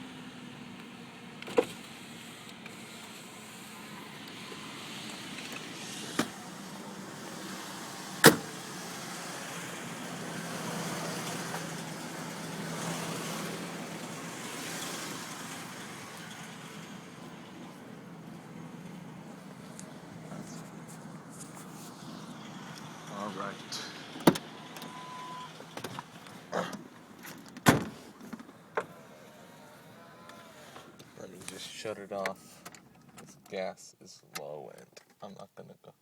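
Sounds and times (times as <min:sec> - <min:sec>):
car engine idling: 0:00.0 - 0:33.1.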